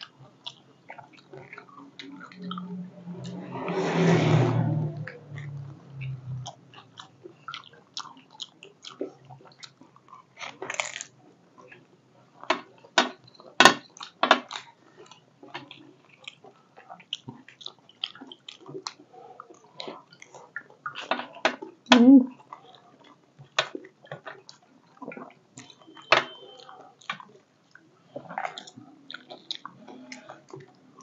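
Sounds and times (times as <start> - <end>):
crisp crunching and chewing: 0.0 - 3.5, 5.0 - 11.8, 12.4 - 31.0.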